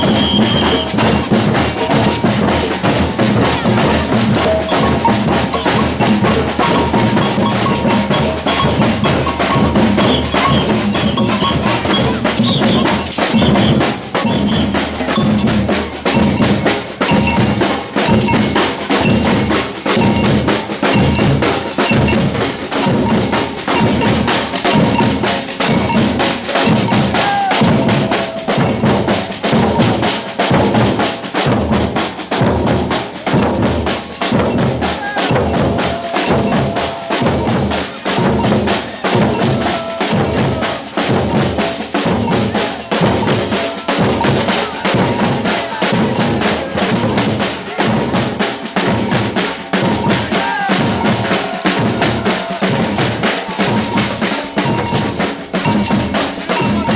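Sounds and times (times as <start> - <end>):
snare drums and hand percussion: 0.0 - 56.9.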